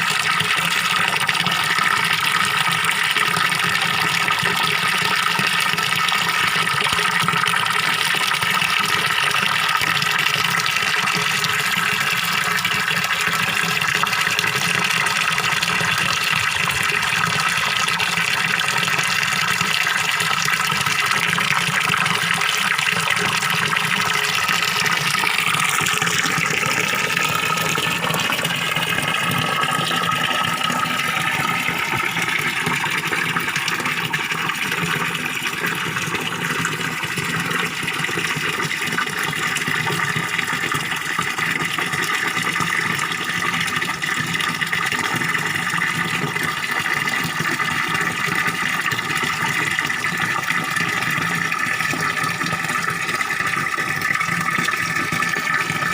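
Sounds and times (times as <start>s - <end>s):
water pouring into pond: 0.0s - 55.9s.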